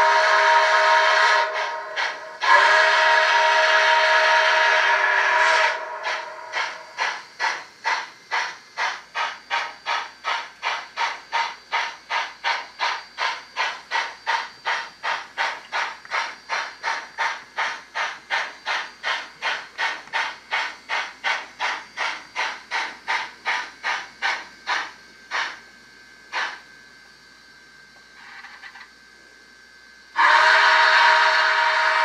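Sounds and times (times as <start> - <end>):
steam exhaust chuffs from speaker: 0.0 - 25.6, 30.1 - 32.0.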